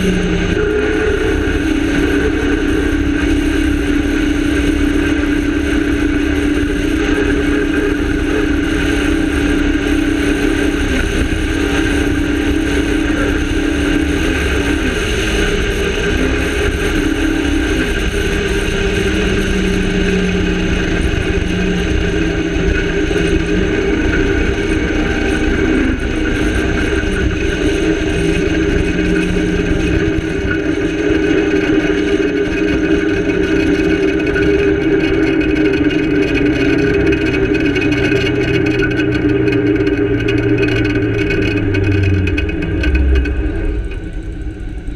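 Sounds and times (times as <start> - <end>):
rally car engine running hard: 0.0 - 44.9.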